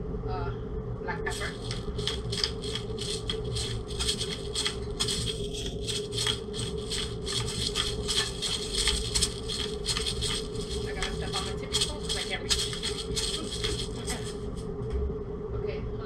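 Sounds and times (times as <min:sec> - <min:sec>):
steady hum: 0:00.0 - 0:16.0
gritty pepper grinding strokes: 0:01.3 - 0:14.6.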